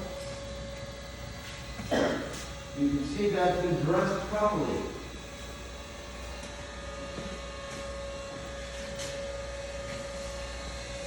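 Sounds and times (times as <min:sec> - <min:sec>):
grinder low hum: 0:00.0 - 0:11.0
grinding wheel whine: 0:00.0 - 0:11.0.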